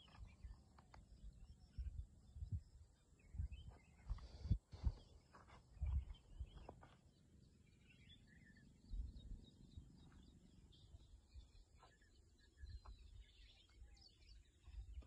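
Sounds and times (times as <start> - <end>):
quiet outdoor background noise: 0.0 - 15.0
small birds chirping: 0.0 - 15.0.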